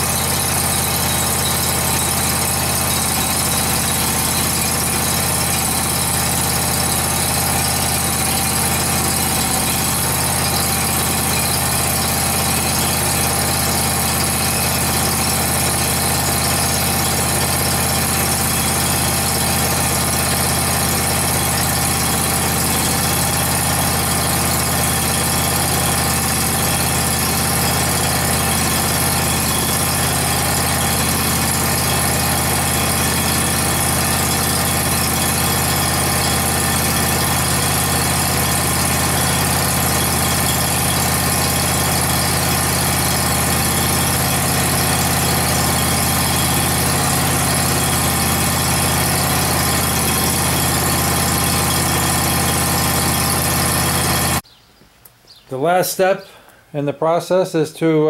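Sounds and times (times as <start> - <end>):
mower engine running: 0.0 - 54.5.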